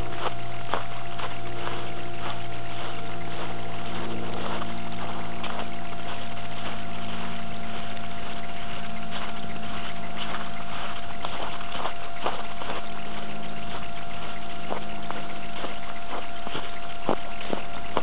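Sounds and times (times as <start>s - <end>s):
camera hum: 0.0s - 18.0s
footsteps crunching in snow: 0.0s - 18.0s
steady rushing noise: 0.0s - 18.0s.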